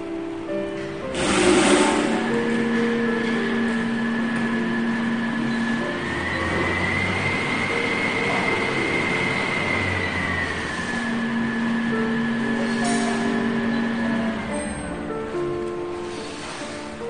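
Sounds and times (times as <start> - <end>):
blower fan rushing and whining: 0.0 - 17.0.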